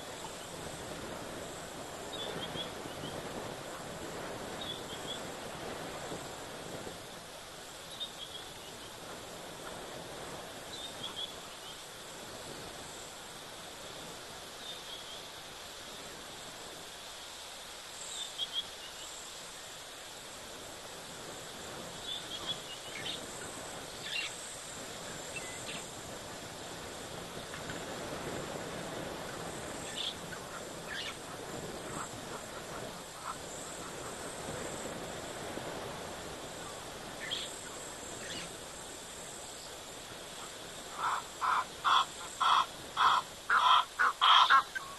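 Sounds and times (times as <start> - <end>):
high insect trill: 0.0 - 44.9.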